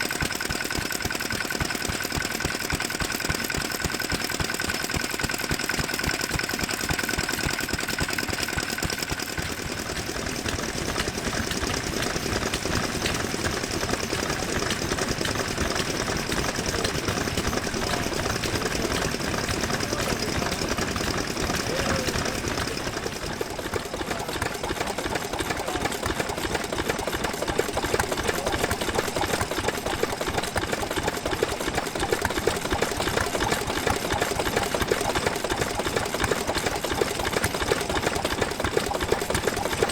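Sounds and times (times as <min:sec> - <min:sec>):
stationary engine knocking: 0:00.0 - 0:39.9.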